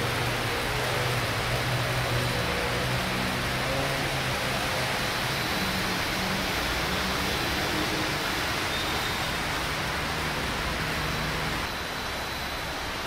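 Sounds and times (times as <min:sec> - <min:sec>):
vehicles driving through floodwater: 0:00.0 - 0:13.0.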